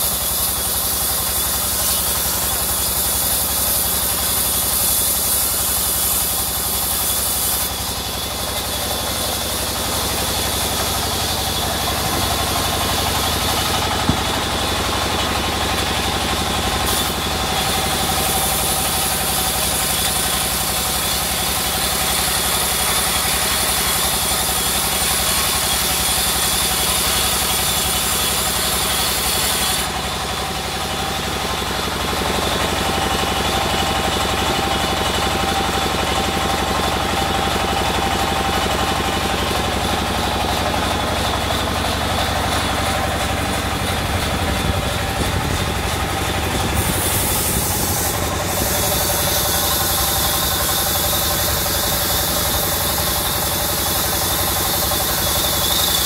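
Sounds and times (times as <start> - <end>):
band saw running: 0.0 - 56.0
high hiss of saw blade: 0.0 - 56.0.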